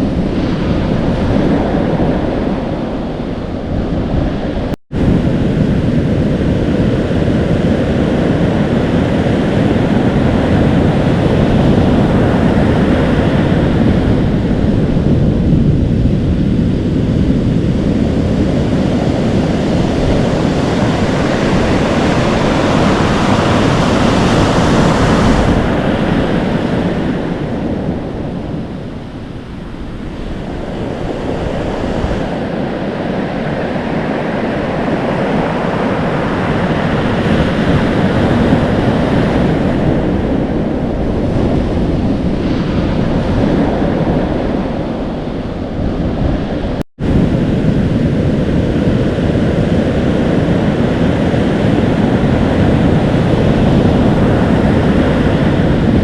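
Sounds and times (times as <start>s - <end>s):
ocean surf breaking: 0.0s - 56.0s
wind buffeting microphone: 0.0s - 56.0s.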